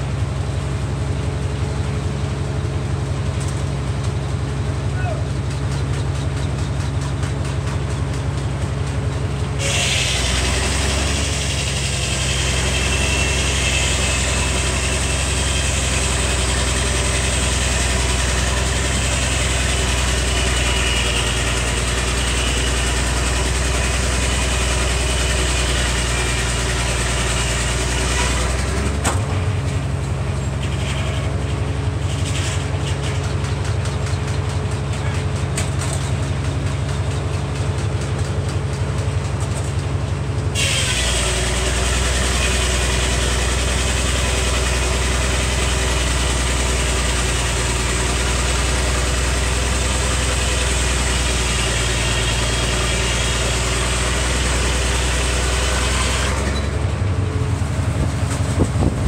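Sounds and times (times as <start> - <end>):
circular saw cutting log: 0.0 - 59.0
engine working hard: 0.0 - 59.0.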